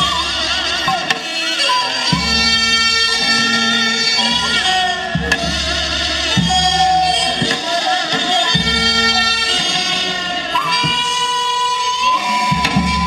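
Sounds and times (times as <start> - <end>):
drum strokes: 0.0 - 13.0.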